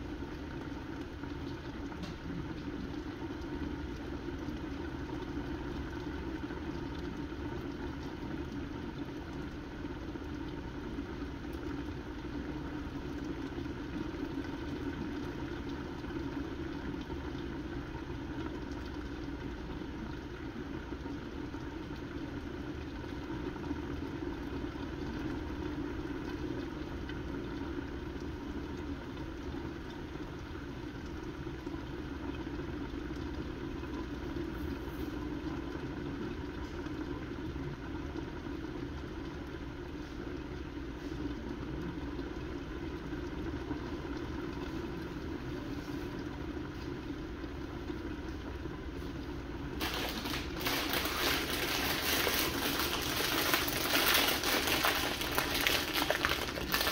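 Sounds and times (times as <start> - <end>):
pot bubbling under a lid: 0.0 - 56.9.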